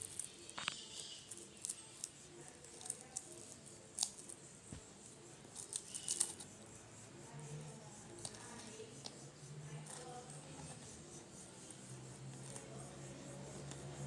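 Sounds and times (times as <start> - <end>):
crunching and clicking of eating: 0.0 - 6.7, 7.4 - 10.9, 11.6 - 14.0.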